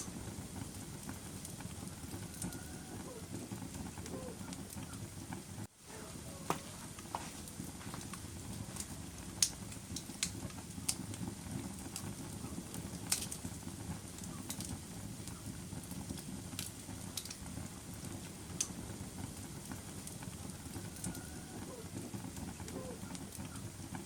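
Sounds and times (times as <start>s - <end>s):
fire popping: 0.0s - 24.0s
low rumble of burning logs: 0.0s - 24.0s.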